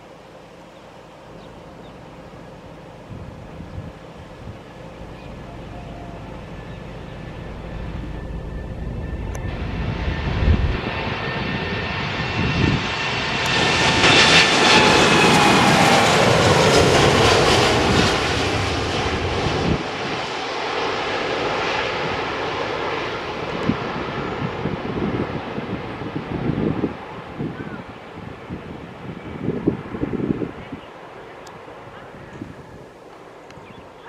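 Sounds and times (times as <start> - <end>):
jet engine whine falling in pitch: 0.0 - 34.0
jet engines roaring at takeoff: 0.0 - 34.0.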